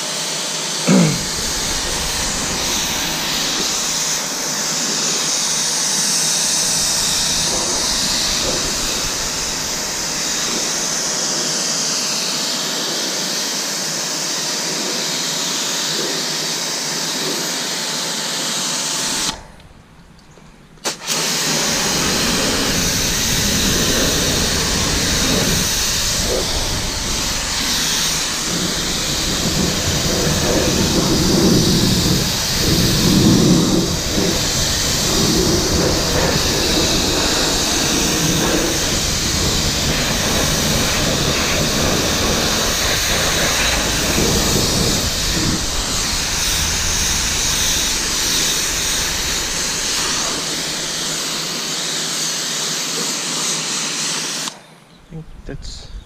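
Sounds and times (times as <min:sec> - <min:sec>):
pressure washer water jet hissing: 0:00.0 - 0:54.6.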